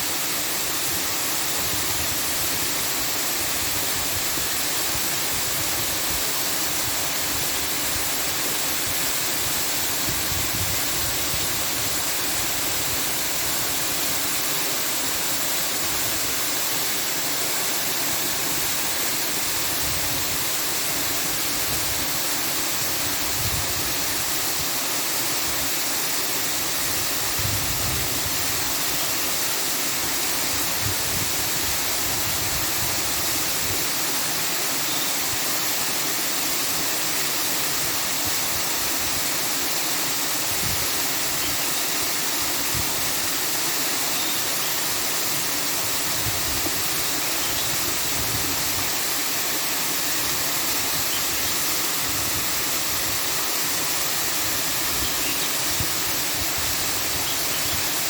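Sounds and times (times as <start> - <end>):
steady rushing hiss: 0.0 - 58.0.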